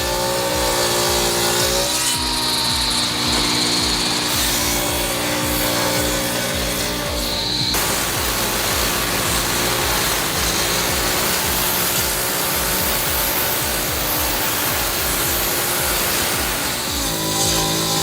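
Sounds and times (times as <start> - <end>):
power saw cutting wood: 0.0 - 18.0.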